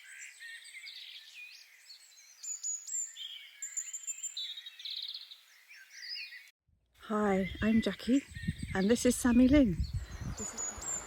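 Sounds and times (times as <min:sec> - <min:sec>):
small birds chirping: 0:00.0 - 0:06.5, 0:07.1 - 0:11.0.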